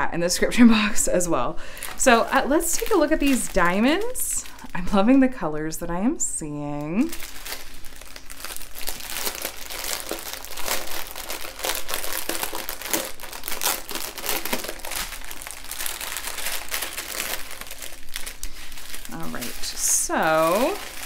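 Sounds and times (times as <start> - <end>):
plastic wrapping crinkling: 1.6 - 5.7, 6.8 - 21.0.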